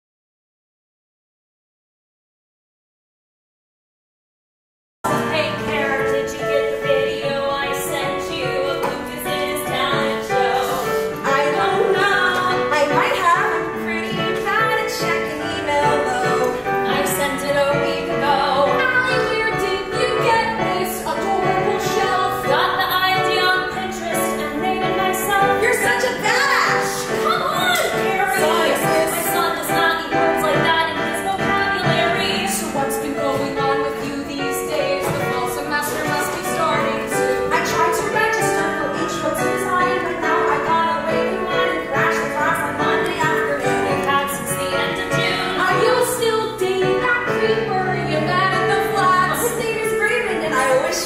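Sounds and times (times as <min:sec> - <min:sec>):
keyboard accompaniment: 0:05.0 - 0:51.0
woman singing: 0:05.1 - 0:51.0.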